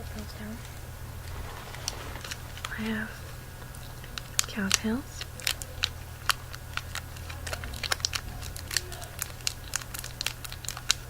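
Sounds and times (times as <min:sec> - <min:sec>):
steady low hum: 0:00.0 - 0:11.0
candy wrapper crinkling: 0:00.6 - 0:11.0.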